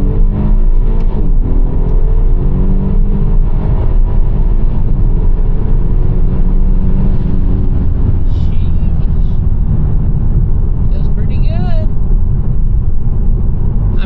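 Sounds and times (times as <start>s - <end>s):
turbocharged car engine accelerating: 0.0s - 14.0s.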